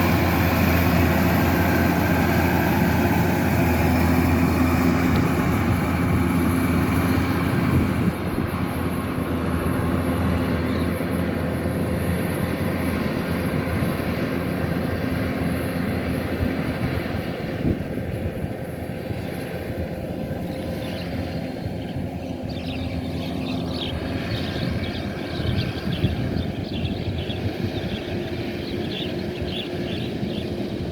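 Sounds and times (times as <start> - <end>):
combine harvester diesel engine: 0.0 - 30.9.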